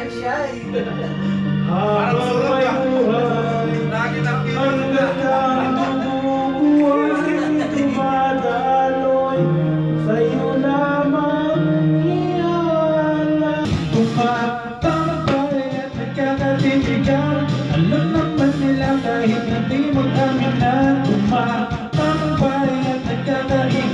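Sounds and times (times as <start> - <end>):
backing track over loudspeakers: 0.0 - 23.9
man singing into microphone: 0.8 - 23.9.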